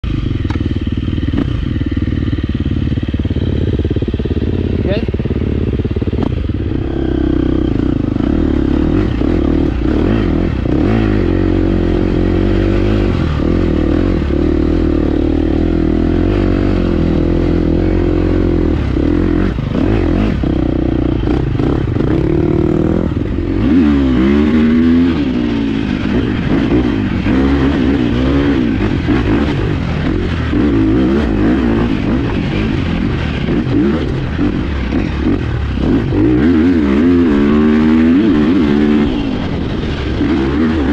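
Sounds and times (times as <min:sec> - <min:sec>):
dirt bike engine revving: 0:00.1 - 0:40.9.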